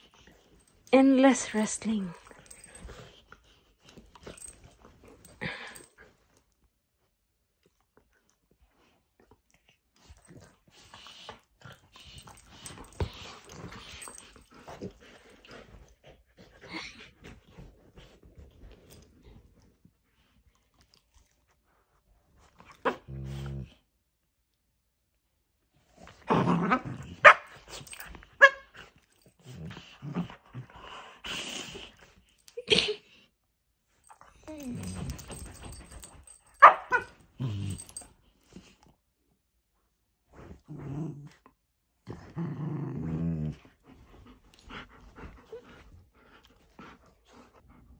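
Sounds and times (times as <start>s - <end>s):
dogs play growling: 0.0s - 0.9s, 2.1s - 6.6s, 7.6s - 21.4s, 22.2s - 23.9s, 25.8s - 32.6s, 34.0s - 38.9s, 40.2s - 47.9s.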